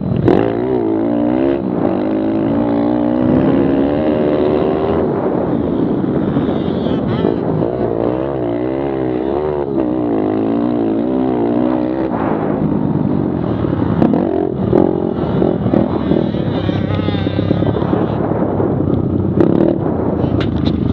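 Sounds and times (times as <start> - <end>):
pit bike engines revving: 0.0 - 20.9.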